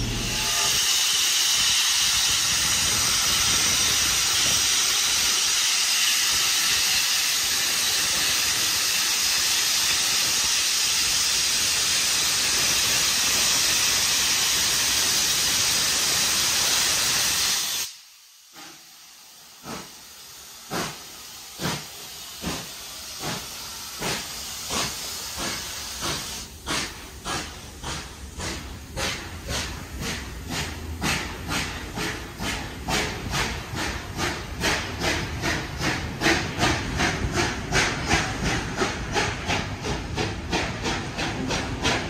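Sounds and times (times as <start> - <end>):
steam hissing: 0.0 - 42.0
steam locomotive chuffing: 0.0 - 42.0.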